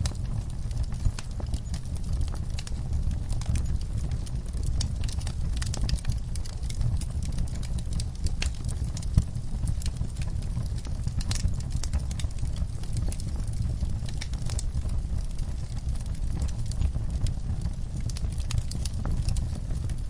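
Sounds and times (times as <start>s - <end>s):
log fire crackling and popping: 0.0s - 20.0s
low rumble of flame: 0.0s - 20.0s.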